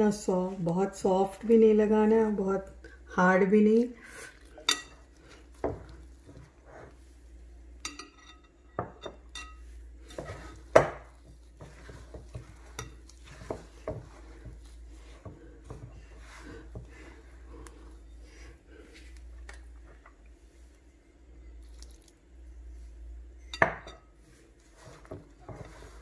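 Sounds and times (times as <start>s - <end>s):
hands kneading dough in a bowl: 0.0s - 26.0s.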